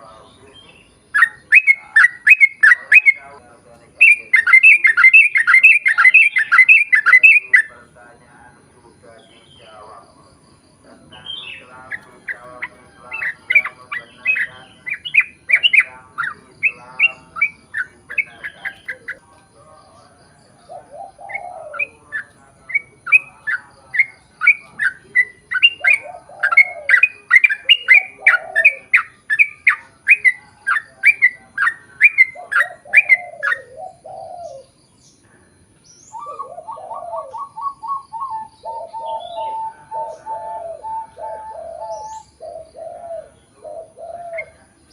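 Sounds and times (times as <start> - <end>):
bird chatter of low notes: 0.0 - 44.9
bird singing bright chirps: 0.0 - 44.9
throaty bird calls: 0.0 - 44.9.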